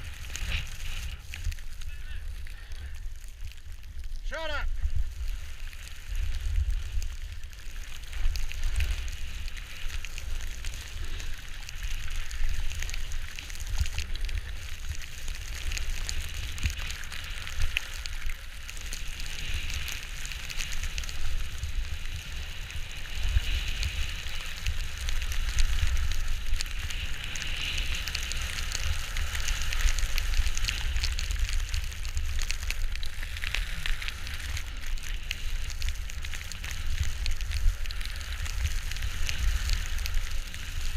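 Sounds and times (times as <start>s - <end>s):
skis scraping over snow: 0.0s - 40.9s.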